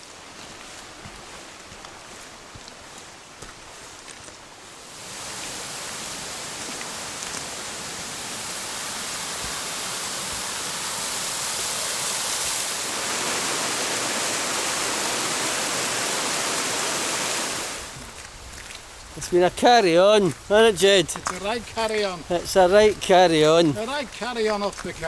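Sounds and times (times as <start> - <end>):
rushing water of waterfall: 0.0 - 25.0.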